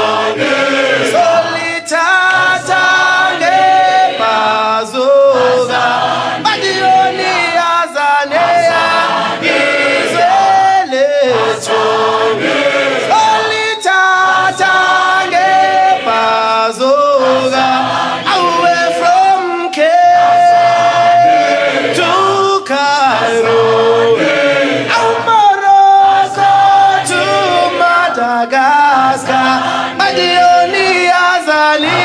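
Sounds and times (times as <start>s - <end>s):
group of voices singing: 0.0s - 32.0s.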